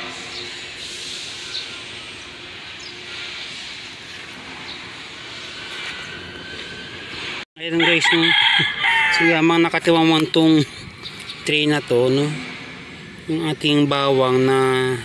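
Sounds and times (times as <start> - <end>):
broad outdoor hiss: 0.0 - 15.0.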